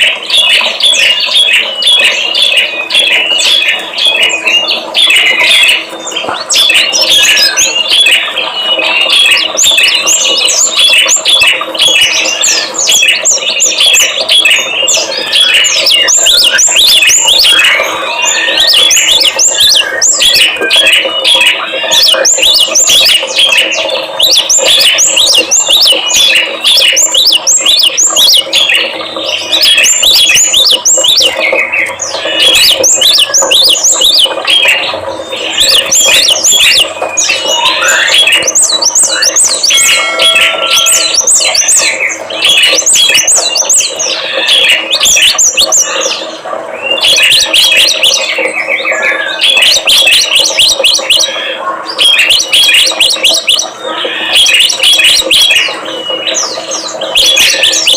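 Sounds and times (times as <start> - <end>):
songbirds chirping and trilling: 0.0 - 57.9.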